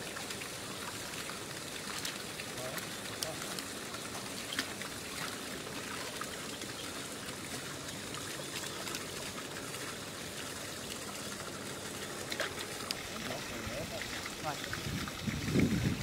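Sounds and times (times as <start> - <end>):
small splash ticks: 0.0 - 15.2
running water splashing: 0.0 - 16.0.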